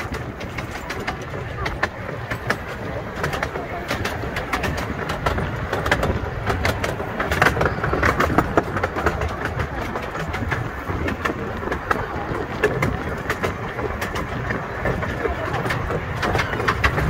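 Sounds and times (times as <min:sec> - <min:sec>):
railway coach rumbling: 0:00.0 - 0:17.0
wheels clicking on rails: 0:00.0 - 0:17.0.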